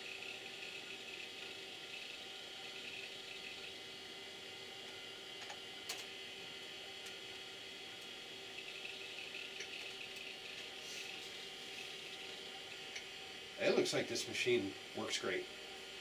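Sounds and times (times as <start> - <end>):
desktop computer fan whirring: 0.0 - 16.0.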